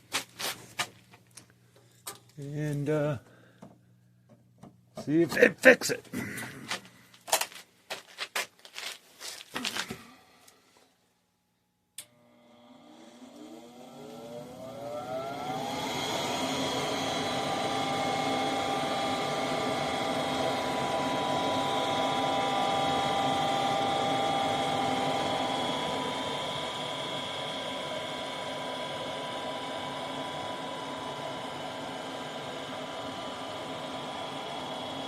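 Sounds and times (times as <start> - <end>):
furnace exhaust fan whine: 0.0 - 8.2, 12.0 - 35.0.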